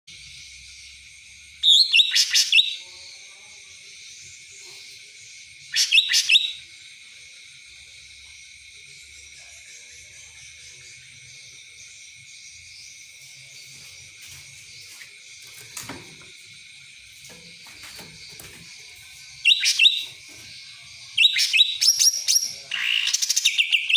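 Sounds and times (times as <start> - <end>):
songbird rapid chirping: 0.1 - 23.9.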